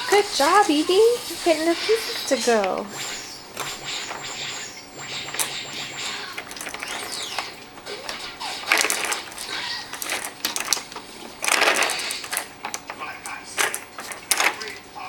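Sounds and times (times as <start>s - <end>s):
rustling scrapes: 0.5s - 14.8s
toy pieces clicking and tapping: 0.5s - 14.8s.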